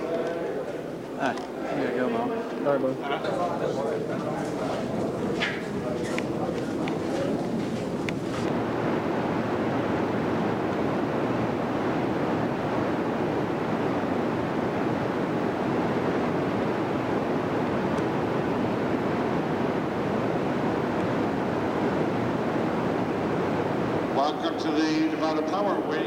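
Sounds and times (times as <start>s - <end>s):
steady rushing roar of turbines: 0.0s - 26.0s.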